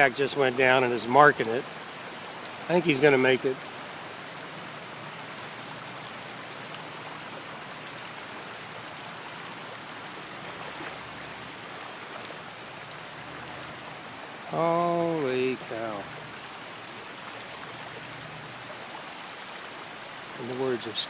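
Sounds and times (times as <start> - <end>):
hiss of moving floodwater: 0.0 - 21.0.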